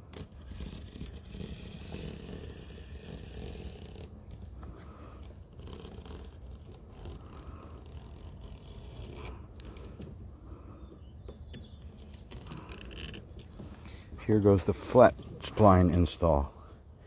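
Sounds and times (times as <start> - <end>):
scraping along aluminium frame: 0.0 - 10.2, 11.4 - 16.3.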